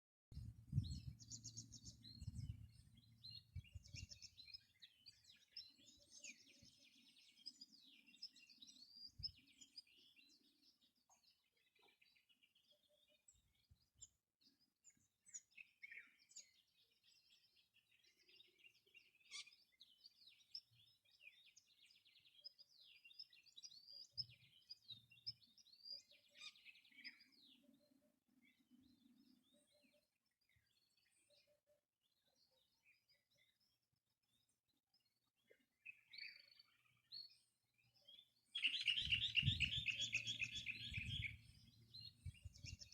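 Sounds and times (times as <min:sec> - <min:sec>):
wild birds chirping and trilling: 0:00.3 - 0:42.9.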